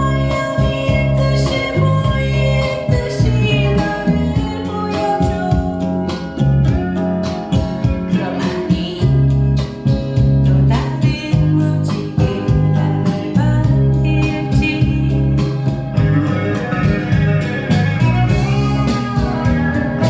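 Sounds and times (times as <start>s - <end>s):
blues song with guitar and singing: 0.0s - 20.0s.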